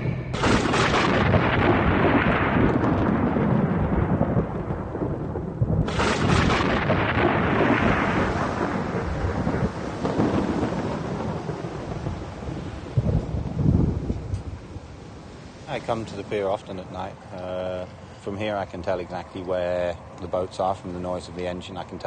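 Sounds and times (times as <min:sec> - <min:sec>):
thunder crack and rumble: 0:00.0 - 0:22.0
steady rain: 0:00.4 - 0:22.0.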